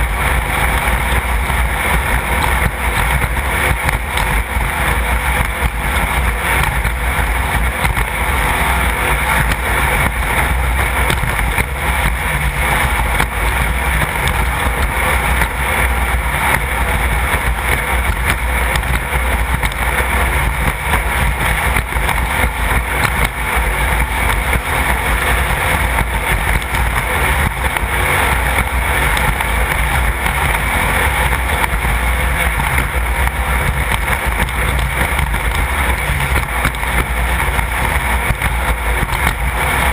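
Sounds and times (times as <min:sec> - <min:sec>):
race car engine: 0:00.0 - 0:39.9
wind and road noise: 0:00.0 - 0:39.9.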